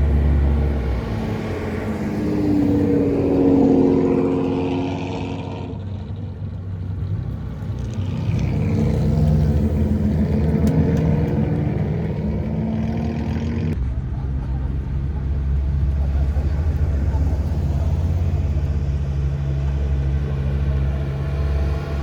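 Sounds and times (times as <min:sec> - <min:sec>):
car engines driving past: 0:00.0 - 0:22.0.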